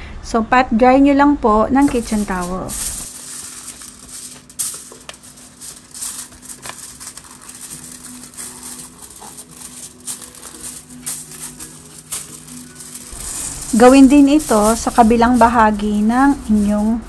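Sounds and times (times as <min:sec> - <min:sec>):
quiet background music: 0:00.2 - 0:17.0
paper towel patting and rustling: 0:01.8 - 0:17.0.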